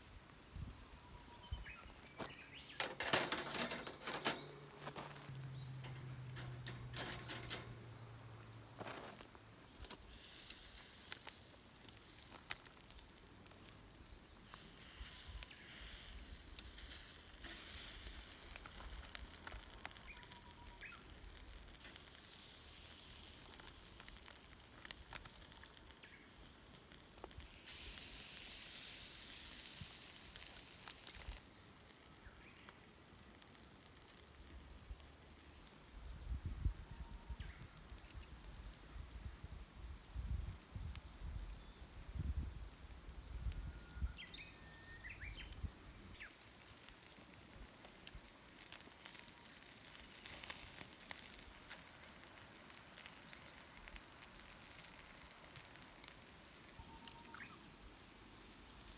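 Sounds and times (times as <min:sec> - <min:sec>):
fire crackles and pops: 0:00.0 - 0:58.9
vegetables sizzling on a campfire: 0:00.0 - 0:58.9.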